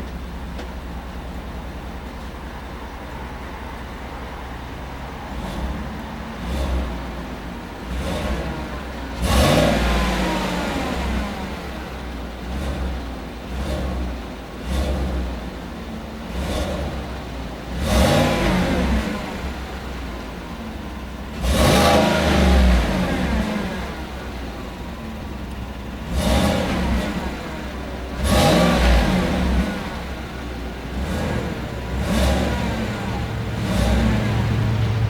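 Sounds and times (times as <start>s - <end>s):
pickup engine revving: 4.5s - 35.0s.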